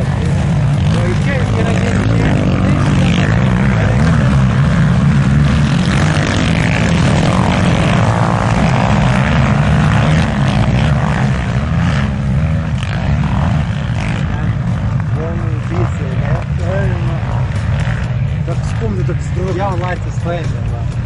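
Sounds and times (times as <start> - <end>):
quad bike engines droning: 0.0 - 21.0.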